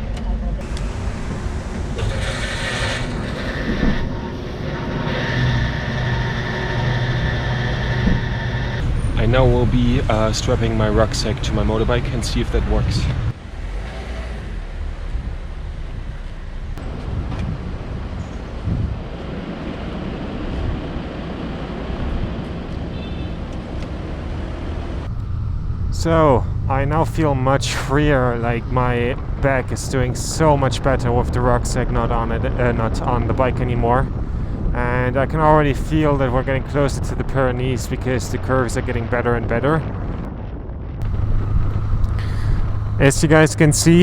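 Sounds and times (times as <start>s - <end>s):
rumbling outdoor noise: 0.0s - 44.0s
vehicle engine humming: 0.0s - 44.0s
wind buffeting microphone: 0.0s - 44.0s.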